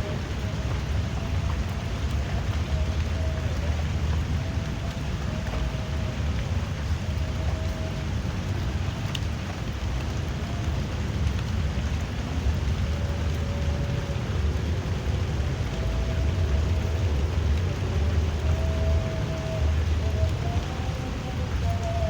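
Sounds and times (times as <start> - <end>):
drizzling rain: 0.0 - 22.0.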